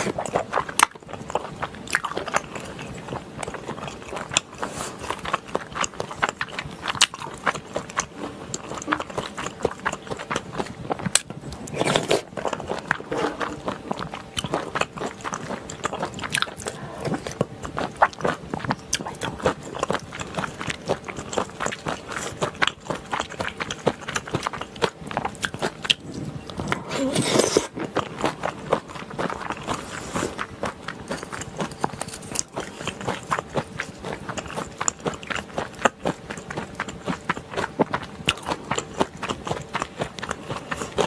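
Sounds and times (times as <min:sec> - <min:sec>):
wet chewing and smacking: 0:00.0 - 0:41.0.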